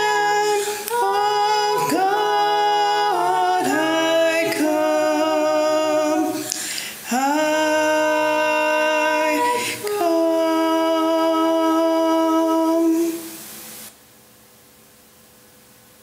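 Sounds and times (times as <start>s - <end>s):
voices singing a hymn in harmony: 0.0s - 13.6s.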